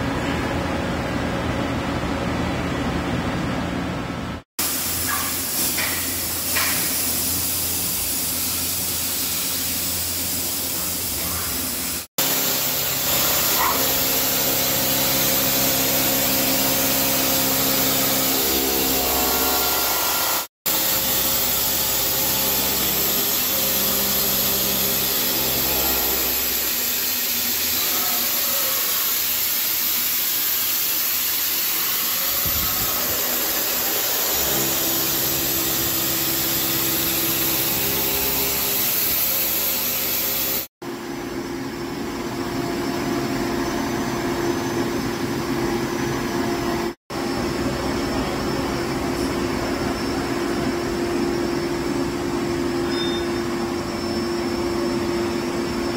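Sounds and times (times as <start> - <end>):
cnc machine cutting metal: 10.6 - 55.9.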